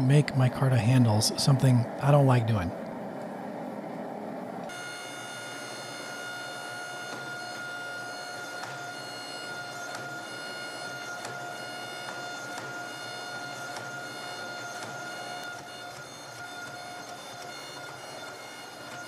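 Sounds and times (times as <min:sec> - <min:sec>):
hydraulic pump whine: 0:01.2 - 0:19.0.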